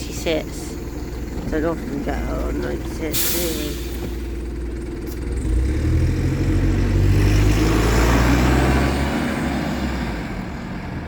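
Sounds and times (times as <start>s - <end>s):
bus engine pulling away: 0.0s - 11.0s.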